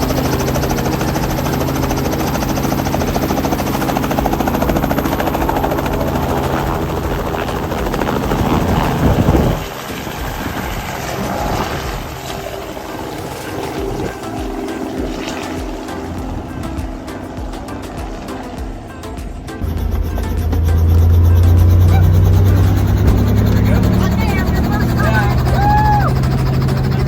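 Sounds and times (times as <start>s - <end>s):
helicopter rotor beating: 0.0s - 27.0s.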